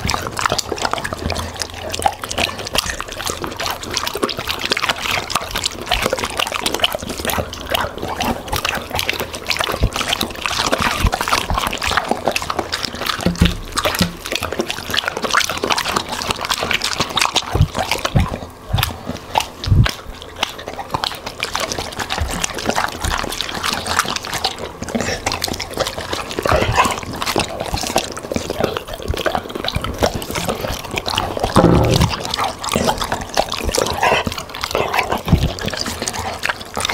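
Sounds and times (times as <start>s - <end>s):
dog chewing and crunching food: 0.0s - 36.9s.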